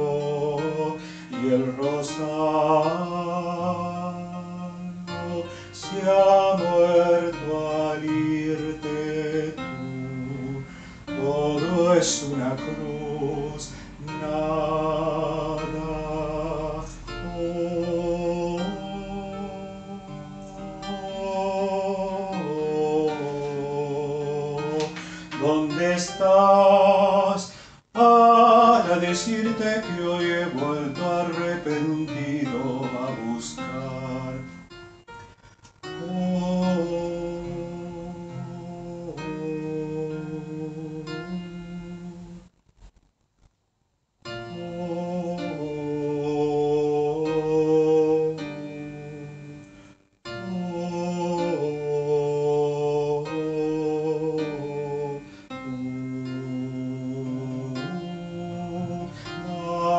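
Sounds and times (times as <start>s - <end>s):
choir singing tango melody: 0.0s - 34.7s, 44.4s - 49.6s, 50.3s - 59.9s
instrumental accompaniment: 0.0s - 42.5s, 44.2s - 59.9s.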